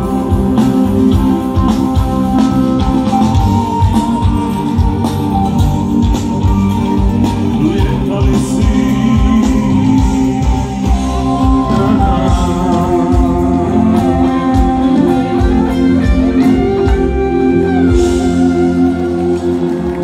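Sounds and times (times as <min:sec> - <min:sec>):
live band music over loudspeakers: 0:00.0 - 0:20.0.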